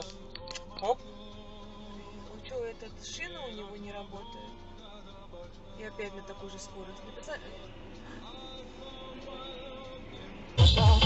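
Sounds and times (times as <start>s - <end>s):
loud music with sliding bass: 0.0s - 11.0s.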